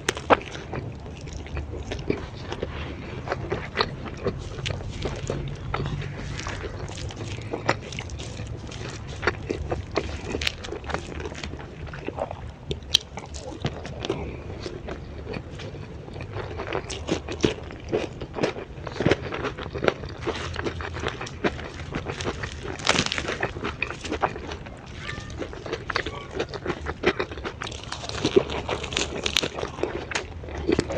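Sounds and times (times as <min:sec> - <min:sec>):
crunching and chewing food: 0:00.0 - 0:30.9.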